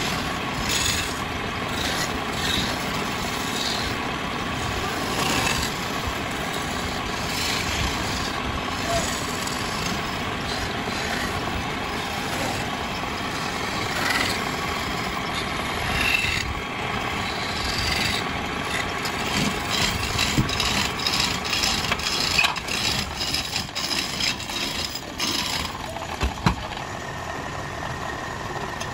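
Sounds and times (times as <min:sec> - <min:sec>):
chisel scraping spinning wood: 0:00.0 - 0:26.8
wood lathe motor running: 0:00.0 - 0:28.9.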